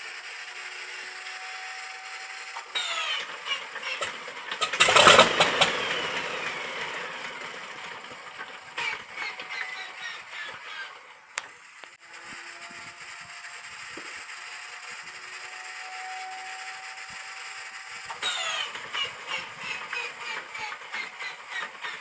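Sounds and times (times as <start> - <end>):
starter flywheel whining: 0.0 - 22.0
engine firing burst: 0.1 - 10.9, 11.6 - 22.0.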